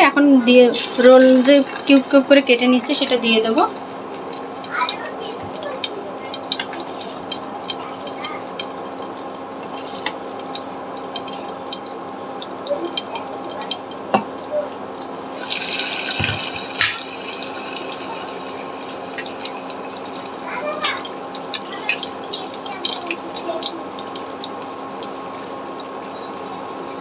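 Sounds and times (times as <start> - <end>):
food deep-frying in oil: 0.0 - 27.0.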